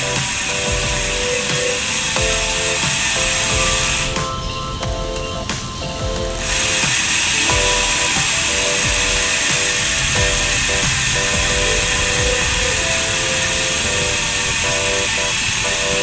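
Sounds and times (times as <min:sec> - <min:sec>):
background music: 0:00.0 - 0:16.0
bicycle freewheel buzzing: 0:00.0 - 0:16.0.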